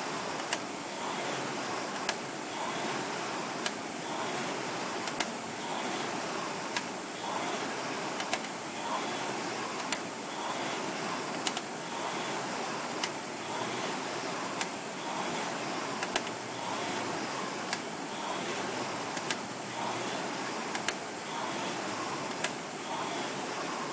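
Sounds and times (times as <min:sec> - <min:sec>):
rowing machine flywheel whirring: 0:00.0 - 0:23.9.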